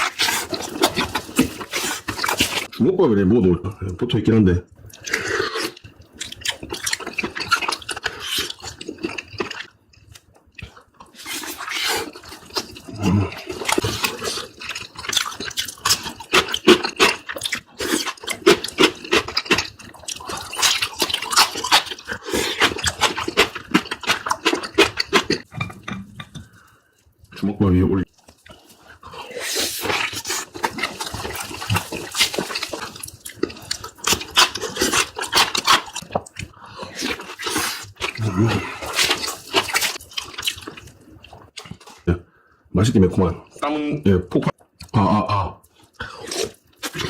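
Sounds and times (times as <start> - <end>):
wet chewing and lip-smacking: 0.0 - 2.8, 4.7 - 27.4, 28.0 - 42.1, 44.5 - 45.0, 45.6 - 47.0.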